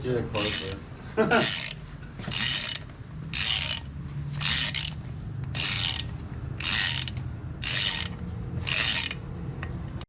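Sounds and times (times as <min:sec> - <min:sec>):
ratchet wrench clicking: 0:00.3 - 0:00.8, 0:01.4 - 0:10.0.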